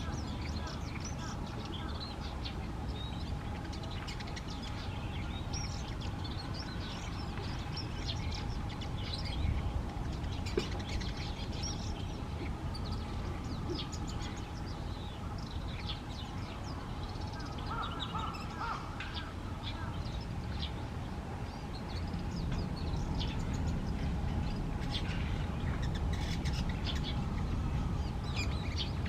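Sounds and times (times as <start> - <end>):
low background rumble: 0.0 - 29.0
songbirds chirping: 0.0 - 29.0.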